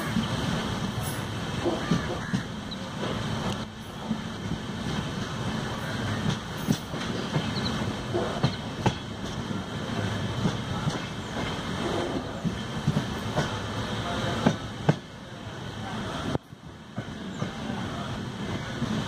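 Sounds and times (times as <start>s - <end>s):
rumble of wheels on track: 0.0s - 19.0s.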